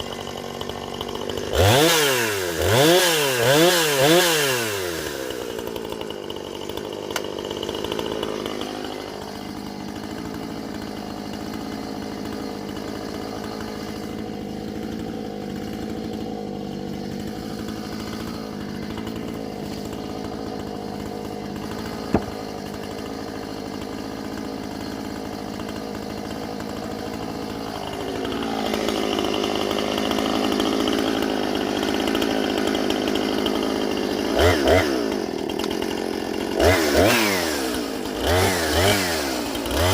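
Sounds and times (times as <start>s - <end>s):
chainsaw running at high speed: 0.0s - 39.9s
chainsaw throttle blips: 0.0s - 39.9s.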